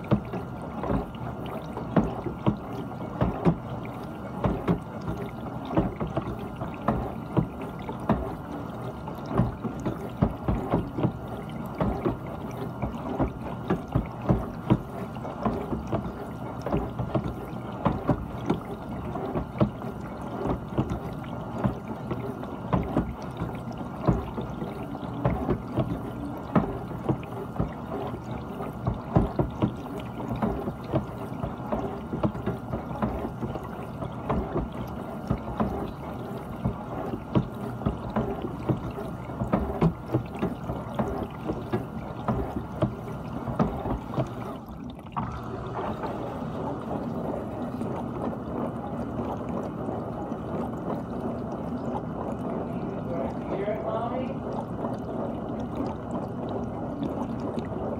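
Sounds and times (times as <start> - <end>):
dishwasher spraying water: 0.0 - 56.0
water splashes: 0.0 - 57.9.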